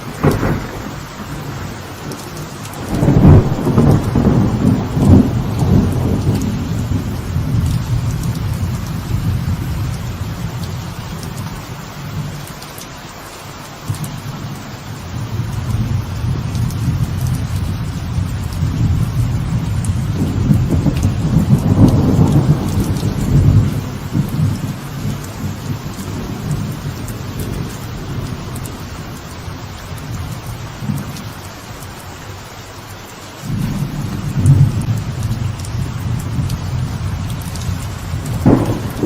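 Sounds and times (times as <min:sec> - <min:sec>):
rolling thunder: 0:00.0 - 0:11.3, 0:15.1 - 0:31.0, 0:33.4 - 0:39.0
light rain falling: 0:00.0 - 0:39.0.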